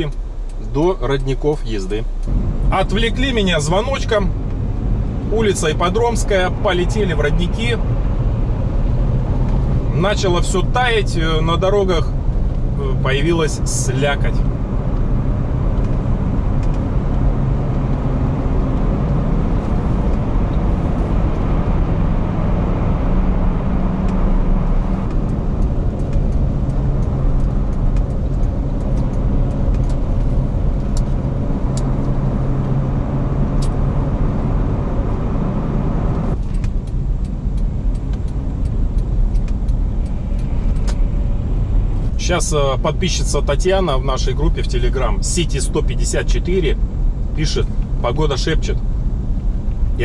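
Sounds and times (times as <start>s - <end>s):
car engine hum: 0.0s - 50.0s.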